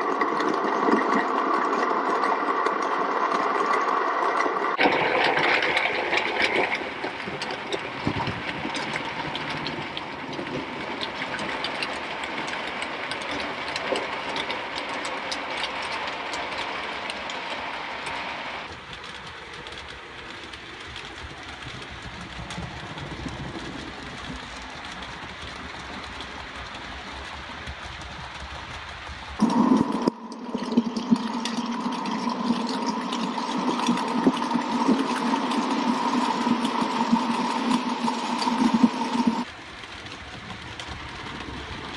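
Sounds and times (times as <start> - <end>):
model train running on track: 0.0 - 41.9
wheels clicking over rail joints: 4.8 - 29.8, 31.2 - 41.9.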